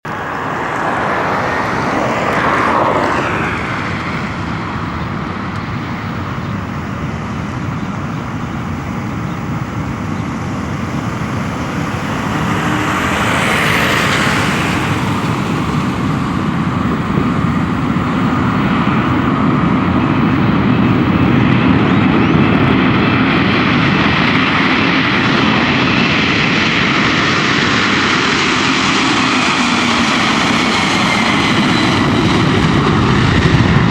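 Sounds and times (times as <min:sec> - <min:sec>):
jet engines roaring: 0:00.0 - 0:33.9.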